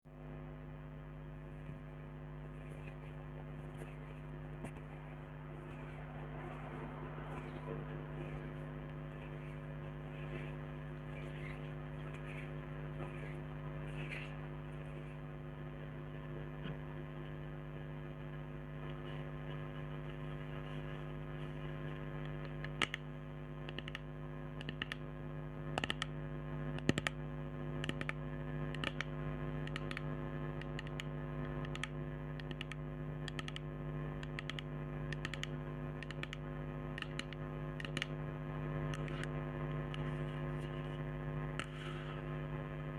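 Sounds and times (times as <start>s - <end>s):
electrical hum: 0.0s - 42.9s.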